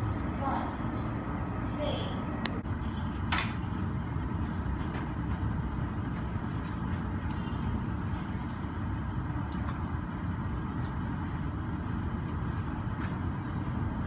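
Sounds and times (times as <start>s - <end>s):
low airport apron rumble: 0.0s - 14.0s.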